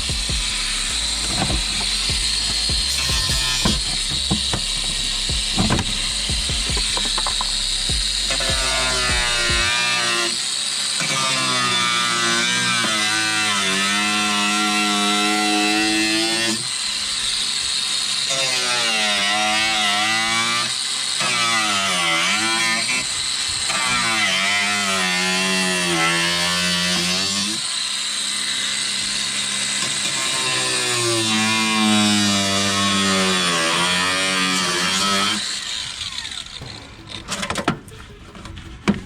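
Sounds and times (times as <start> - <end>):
power tool cutting sheet metal: 0.0 - 39.0.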